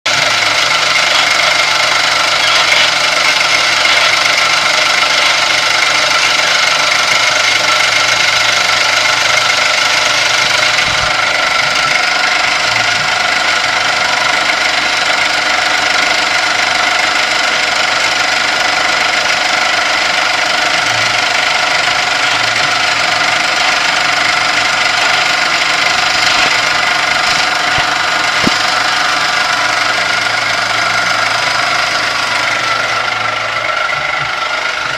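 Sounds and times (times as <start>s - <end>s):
machine drive running noisily: 0.1s - 34.9s.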